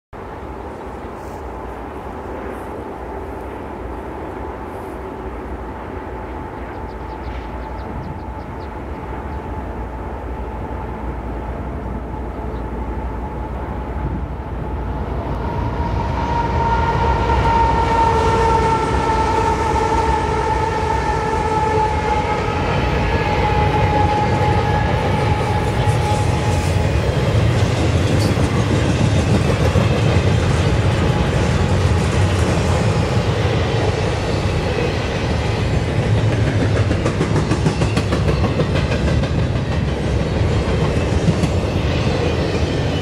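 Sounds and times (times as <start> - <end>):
diesel locomotives rumbling: 0.2 - 43.0.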